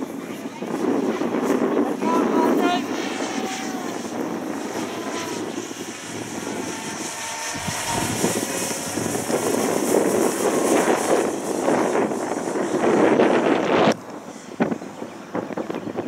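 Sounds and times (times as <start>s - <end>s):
model plane electric motor whine: 0.0s - 16.0s
wind buffeting microphone: 0.0s - 16.0s.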